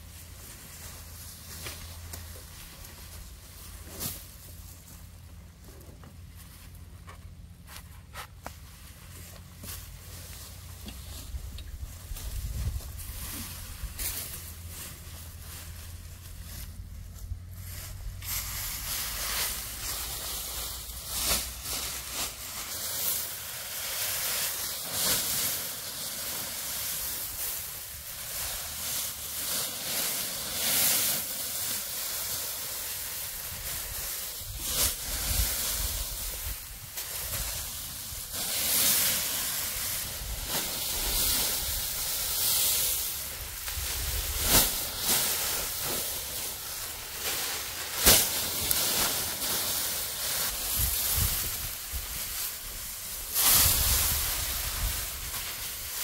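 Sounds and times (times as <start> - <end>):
hissing rustle: 9.2 - 56.0.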